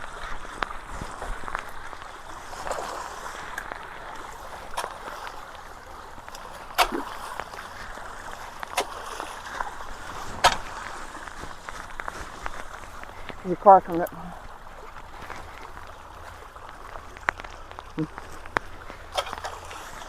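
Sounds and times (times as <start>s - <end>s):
running splashing water: 0.0s - 20.0s.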